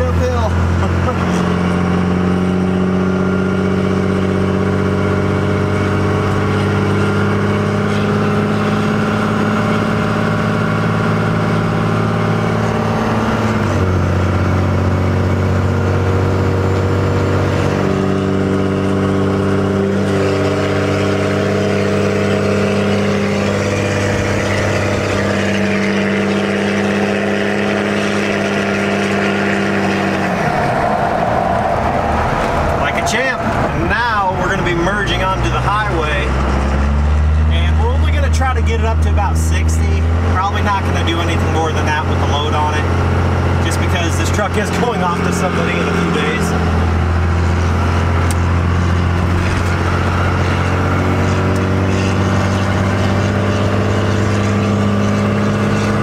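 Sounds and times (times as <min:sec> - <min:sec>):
diesel engine drone under load: 0:00.0 - 0:56.0.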